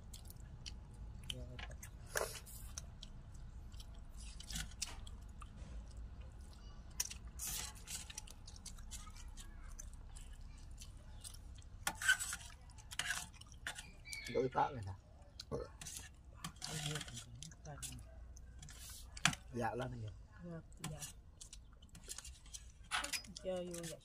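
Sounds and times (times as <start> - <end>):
people chewing: 0.0 - 24.0.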